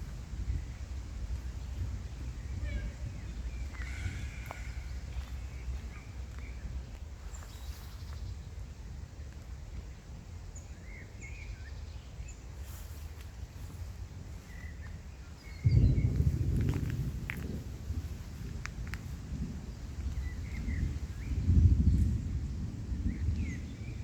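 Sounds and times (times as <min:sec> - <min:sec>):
low outdoor rumble: 0:00.0 - 0:24.0
small birds chirping: 0:00.0 - 0:24.0.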